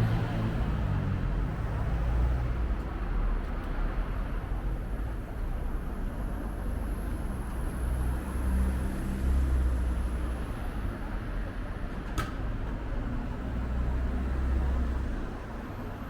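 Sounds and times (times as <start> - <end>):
heavy engine running close: 0.0 - 16.0
traffic rumble and tyre noise: 0.0 - 16.0.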